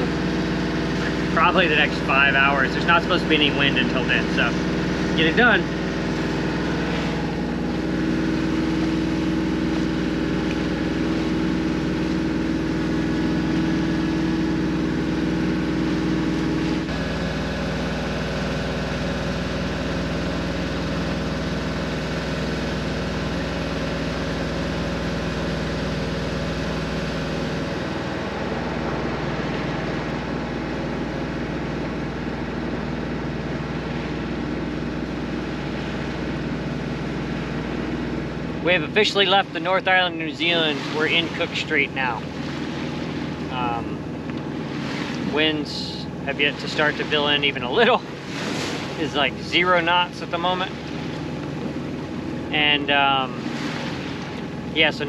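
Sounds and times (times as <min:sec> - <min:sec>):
boat engine running: 0:00.0 - 0:55.0
water washing past hull: 0:00.0 - 0:55.0.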